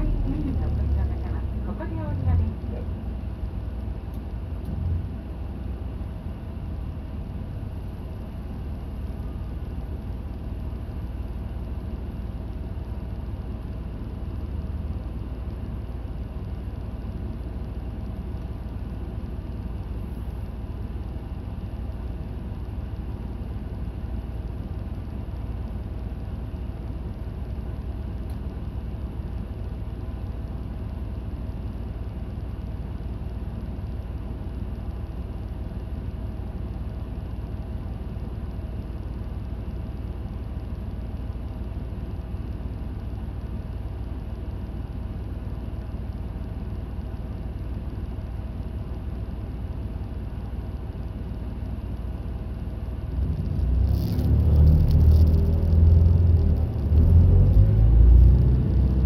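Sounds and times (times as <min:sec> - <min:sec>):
bus engine hum: 0:00.0 - 0:59.0
road rumble: 0:00.0 - 0:59.0.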